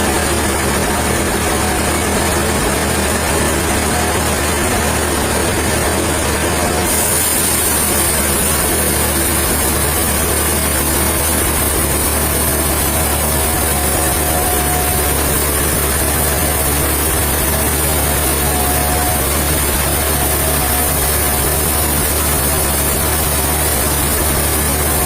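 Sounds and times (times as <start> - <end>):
heavy machinery humming: 0.0 - 25.0.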